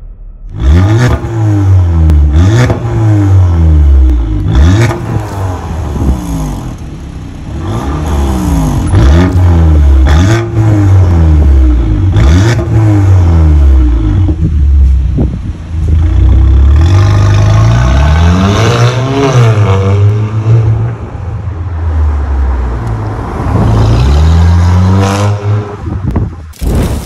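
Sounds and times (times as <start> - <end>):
car engine revving: 0.4 - 14.4, 15.9 - 26.1.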